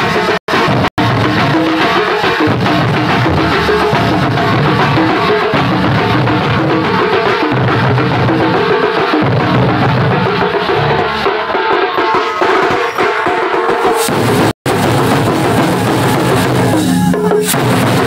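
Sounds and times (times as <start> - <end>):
drumming: 0.0 - 18.0.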